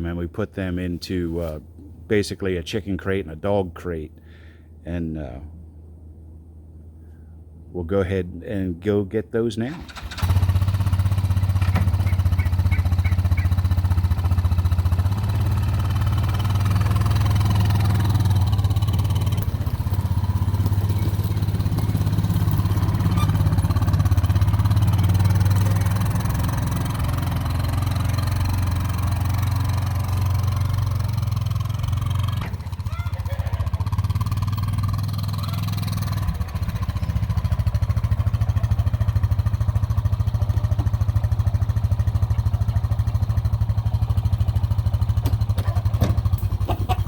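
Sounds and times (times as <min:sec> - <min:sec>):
engine humming: 0:00.0 - 0:47.0.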